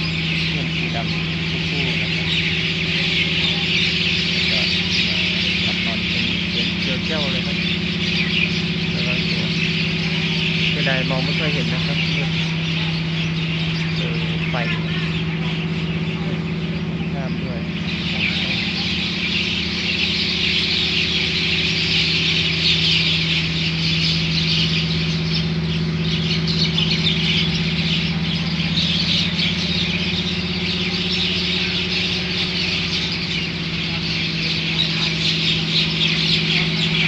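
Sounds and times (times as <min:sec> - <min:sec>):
flock of birds chattering: 0:00.0 - 0:37.0
low hum: 0:00.0 - 0:37.0.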